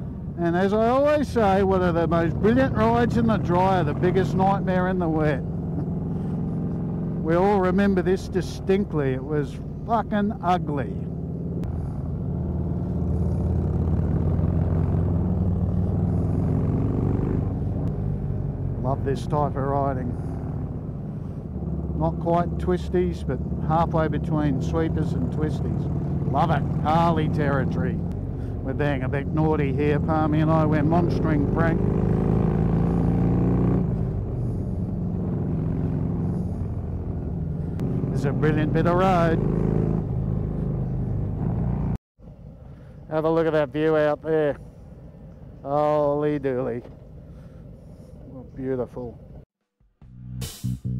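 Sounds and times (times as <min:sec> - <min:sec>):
motorcycle engines cruising: 0:00.0 - 0:49.4
wind and road noise: 0:00.0 - 0:49.5.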